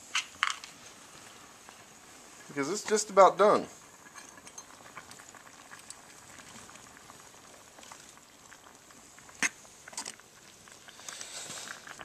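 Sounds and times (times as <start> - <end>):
water boiling in pot: 0.0 - 12.0.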